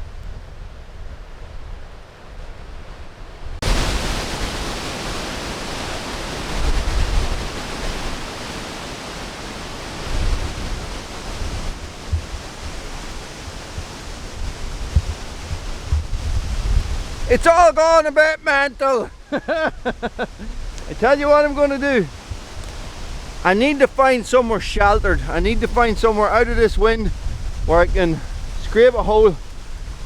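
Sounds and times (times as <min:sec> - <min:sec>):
wind blowing against microphone: 0:00.0 - 0:30.0.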